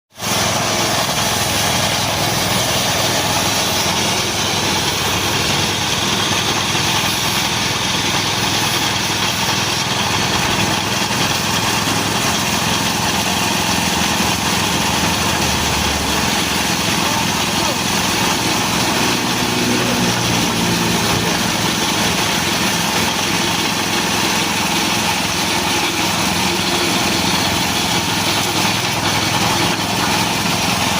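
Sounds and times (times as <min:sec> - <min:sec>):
small petrol engine running: 0:00.1 - 0:30.9.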